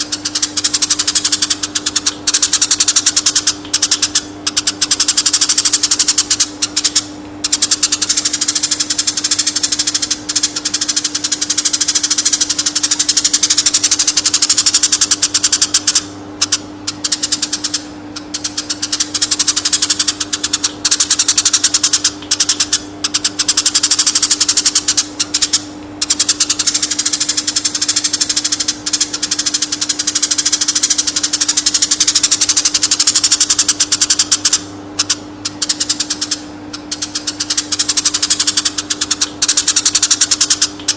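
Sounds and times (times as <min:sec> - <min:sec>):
sparrow chirping: 0:00.0 - 0:40.9
steady low hum: 0:00.0 - 0:40.9.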